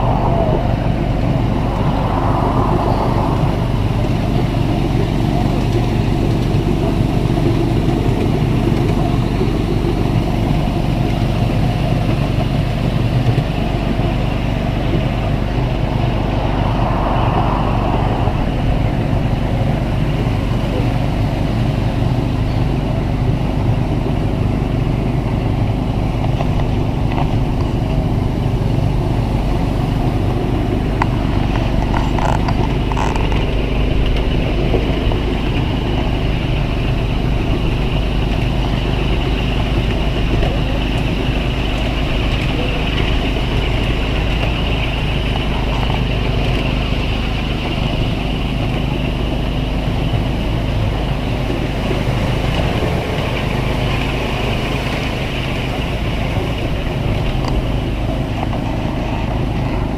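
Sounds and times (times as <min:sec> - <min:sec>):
miniature train rumbling: 0:00.0 - 0:59.9.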